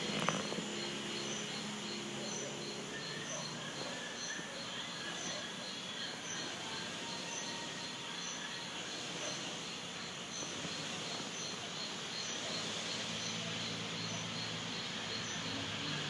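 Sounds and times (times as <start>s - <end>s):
insects chirping: 0.0s - 16.0s
outdoor background noise: 0.0s - 16.0s.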